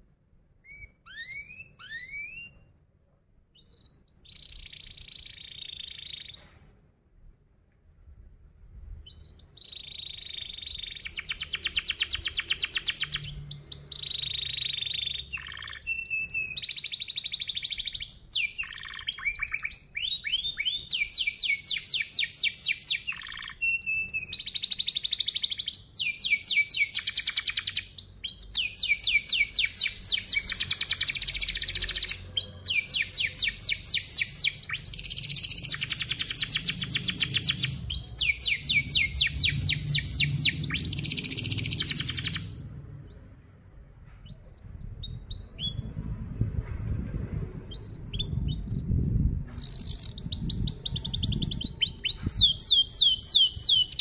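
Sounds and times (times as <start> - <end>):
canary trilling: 0.6 - 2.6, 3.6 - 6.6, 9.1 - 43.3, 47.7 - 54.0
canary chirps: 0.6 - 6.8, 8.9 - 43.6, 44.2 - 46.4, 47.7 - 54.0.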